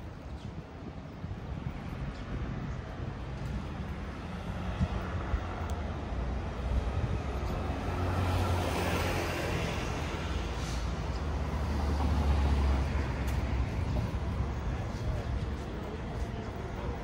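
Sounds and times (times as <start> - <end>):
vehicles driving past: 0.4 - 17.0.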